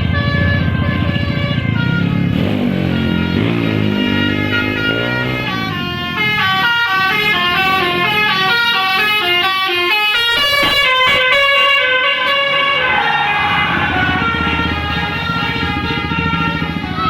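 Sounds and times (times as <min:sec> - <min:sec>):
bus horn playing melody: 0:00.0 - 0:17.0.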